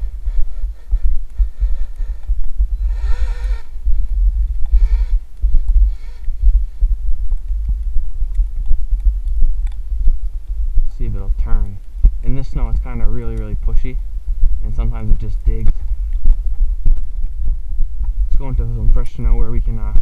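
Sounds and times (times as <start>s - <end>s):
low rumble on microphone: 0.0s - 20.0s.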